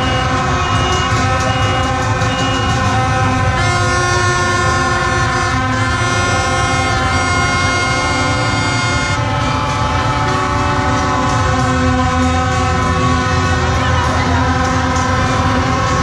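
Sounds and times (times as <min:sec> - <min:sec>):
many horns blowing: 0:00.0 - 0:16.0
street crowd noise: 0:00.0 - 0:16.0.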